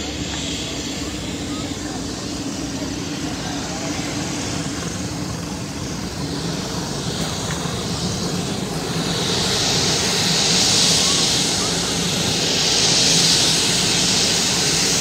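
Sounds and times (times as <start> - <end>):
helicopter engines and rotor: 0.0 - 15.0.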